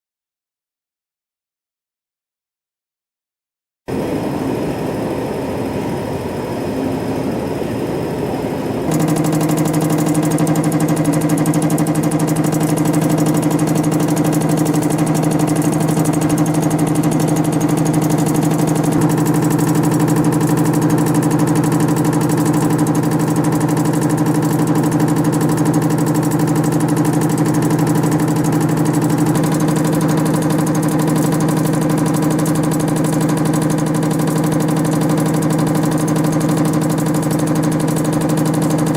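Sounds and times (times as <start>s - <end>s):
spring coiling machine humming: 3.9s - 38.9s.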